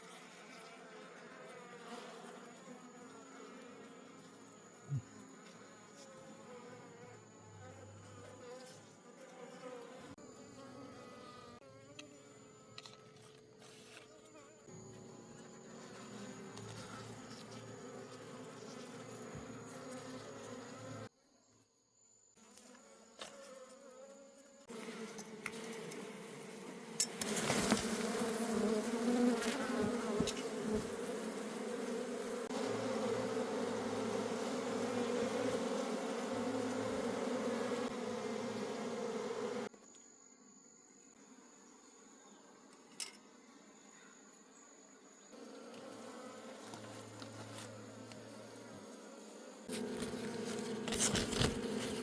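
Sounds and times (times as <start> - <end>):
honey bees buzzing: 0.0 - 21.1, 22.6 - 39.7, 45.2 - 52.0.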